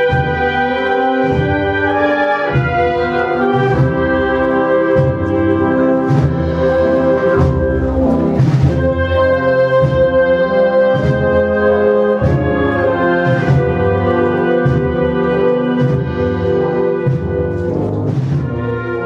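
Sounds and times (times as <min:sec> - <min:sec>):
bass drum beating: 0:00.0 - 0:18.9
brass holding full chords: 0:00.0 - 0:19.0.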